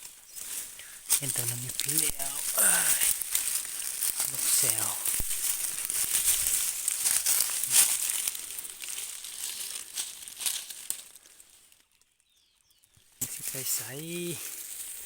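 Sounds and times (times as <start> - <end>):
dry rustling and crackling: 0.0 - 15.0.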